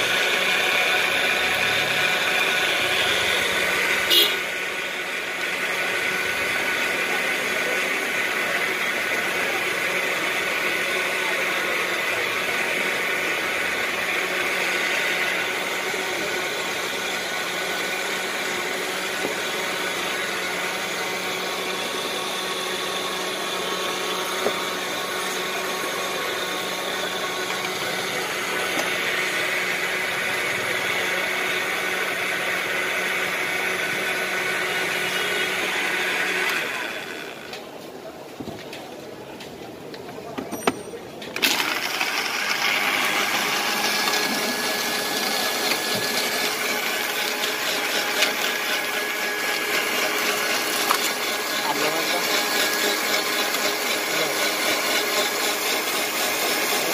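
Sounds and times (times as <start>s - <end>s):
blender motor running: 0.0s - 37.8s, 41.3s - 56.9s.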